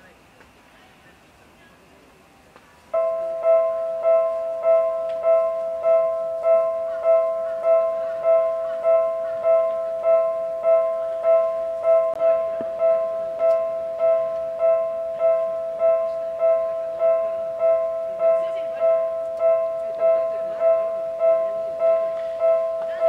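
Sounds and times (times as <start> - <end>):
level crossing warning bell: 2.9 - 23.0.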